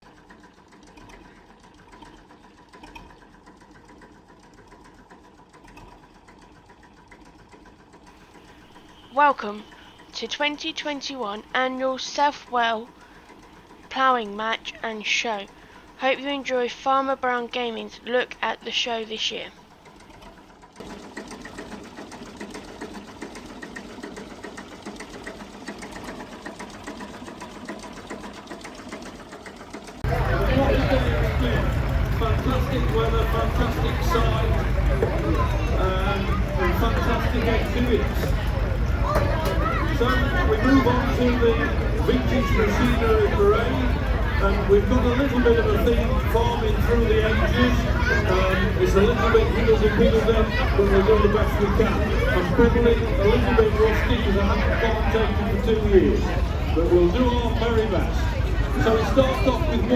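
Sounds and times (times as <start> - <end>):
small machine clicking rhythmically: 0.0 - 14.8, 19.6 - 59.9
engine running: 0.0 - 18.7, 19.6 - 59.9.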